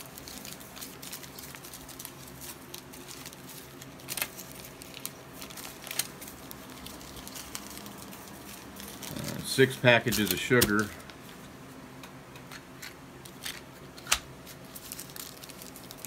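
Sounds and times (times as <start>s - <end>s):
foil packets crinkling: 0.0s - 11.4s, 13.3s - 16.0s.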